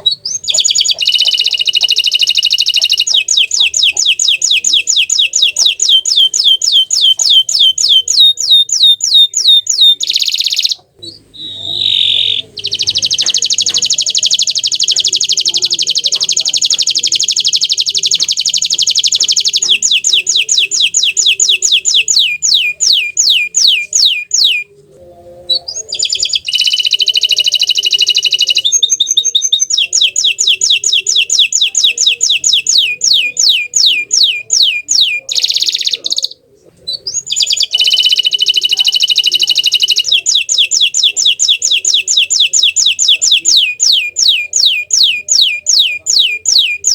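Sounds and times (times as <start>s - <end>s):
canary singing: 0.0s - 46.9s.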